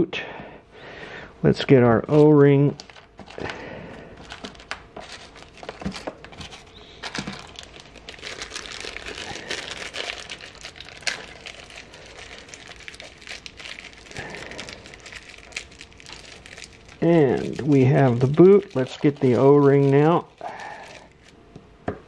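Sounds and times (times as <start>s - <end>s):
plastic bag crinkling: 2.0s - 21.4s.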